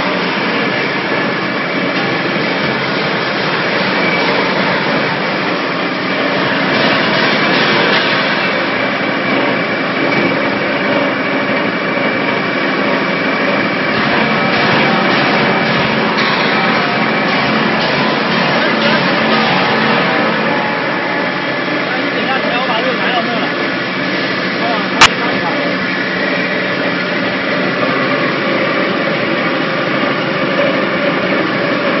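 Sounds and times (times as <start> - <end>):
crusher machine running: 0.0 - 32.0.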